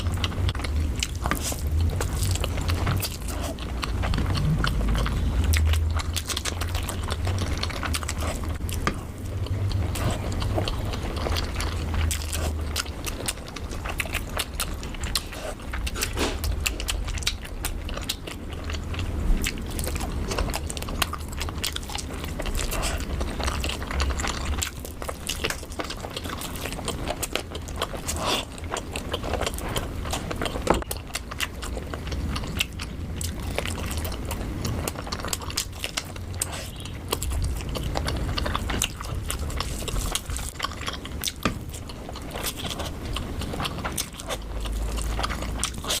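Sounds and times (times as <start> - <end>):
chewing and biting: 0.0 - 46.0.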